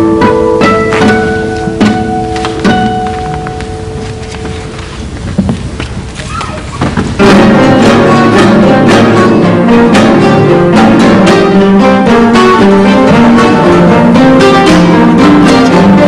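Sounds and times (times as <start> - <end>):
classical guitar ensemble playing: 0.0 - 5.1, 7.2 - 16.0.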